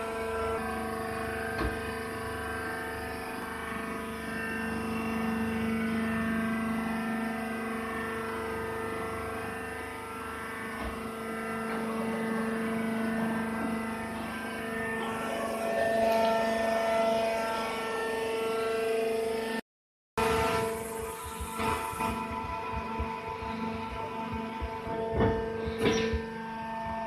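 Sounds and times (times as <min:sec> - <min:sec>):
motor and pump humming: 0:00.0 - 0:19.6, 0:20.2 - 0:27.0.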